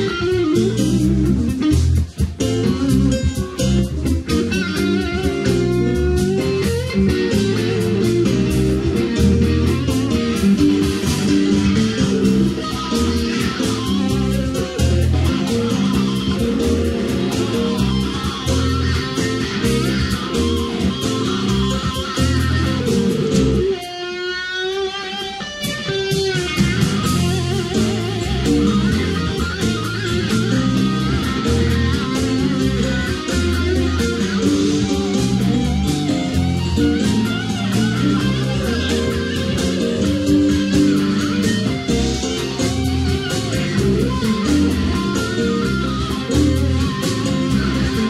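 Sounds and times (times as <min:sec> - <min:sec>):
bass: 0:00.0 - 0:23.9, 0:25.4 - 0:48.0
steady drum beat: 0:00.0 - 0:24.0, 0:25.2 - 0:48.0
electric guitar strumming: 0:00.0 - 0:48.0
live rock band playing: 0:00.0 - 0:48.0.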